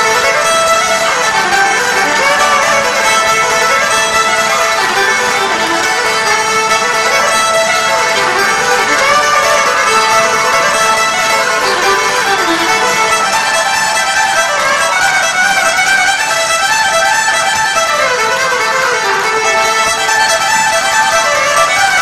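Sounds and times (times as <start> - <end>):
amplified fiddle melody: 0.0 - 22.0
live folk-punk band: 0.0 - 22.0.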